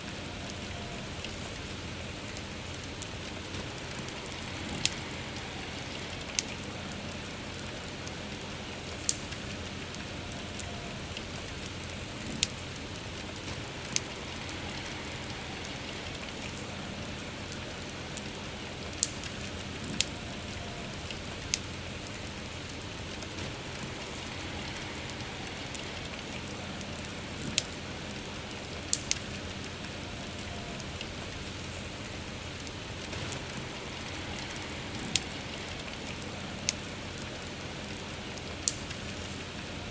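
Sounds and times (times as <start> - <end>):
campfire crackling and popping: 0.0 - 39.9
soft rain: 0.0 - 39.9.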